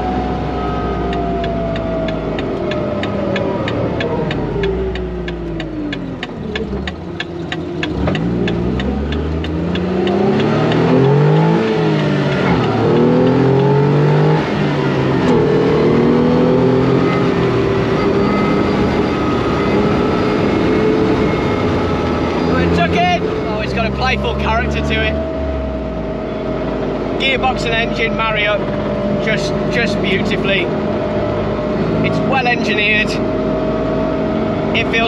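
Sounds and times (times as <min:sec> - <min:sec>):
car engine accelerating: 0:00.0 - 0:35.0
road noise: 0:00.0 - 0:35.0
wind: 0:00.0 - 0:35.0.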